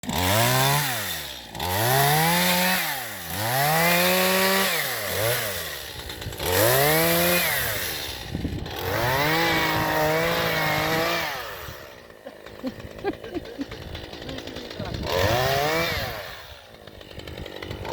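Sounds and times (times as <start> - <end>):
chainsaw engine revving: 0.0 - 17.9.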